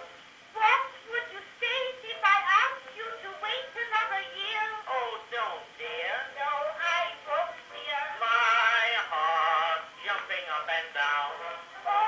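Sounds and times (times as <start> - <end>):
phonograph vocal duet: 0.0 - 12.0.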